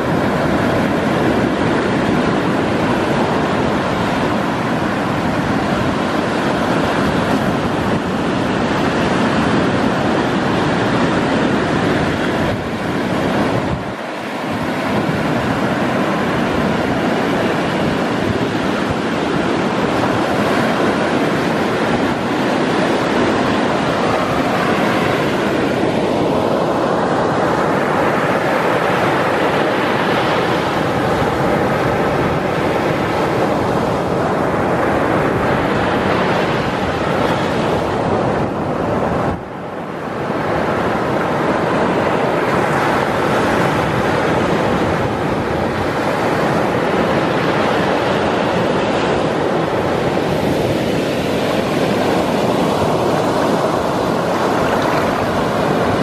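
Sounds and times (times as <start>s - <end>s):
ocean waves on beach: 0.0s - 56.0s.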